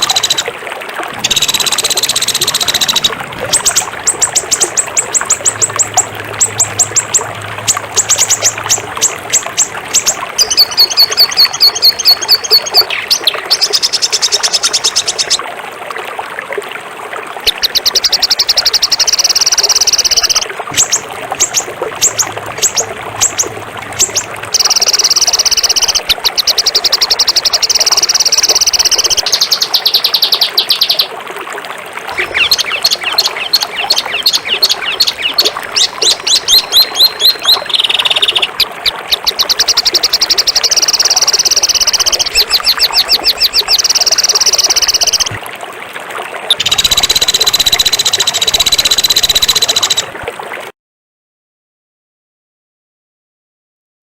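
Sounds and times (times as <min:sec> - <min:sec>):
songbird rattling trills: 0:00.0 - 0:00.5, 0:01.2 - 0:15.4, 0:17.5 - 0:31.1, 0:32.1 - 0:45.4, 0:46.5 - 0:50.1.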